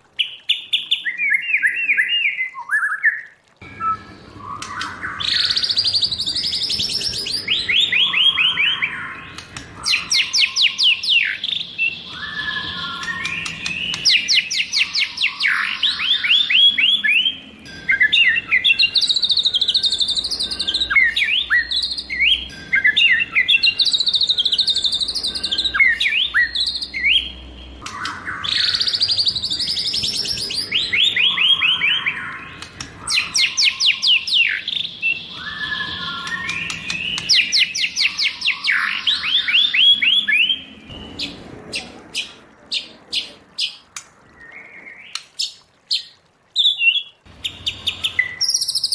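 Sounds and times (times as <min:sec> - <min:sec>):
bird whistling song: 0:00.2 - 0:41.4, 0:44.4 - 0:48.9
bird sharp ticking notes: 0:03.6 - 0:46.2.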